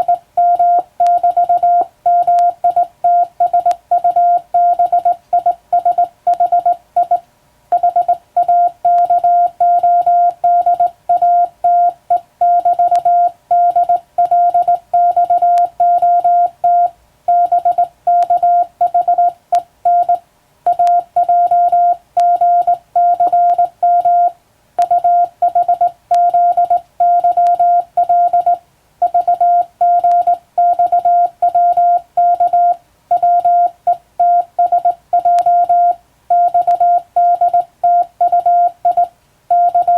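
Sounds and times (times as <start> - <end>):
morse code beeps: 0.0 - 7.2, 7.8 - 39.9.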